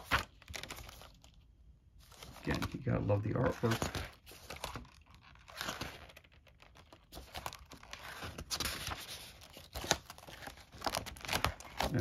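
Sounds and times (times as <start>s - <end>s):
book pages rustling: 0.0s - 12.0s.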